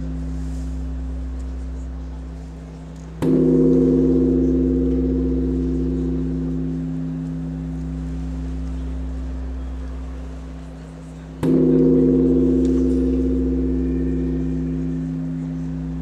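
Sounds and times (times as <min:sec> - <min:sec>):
gong ringing: 0:00.0 - 0:10.8, 0:11.4 - 0:16.0
low hum of held tones: 0:00.0 - 0:16.0.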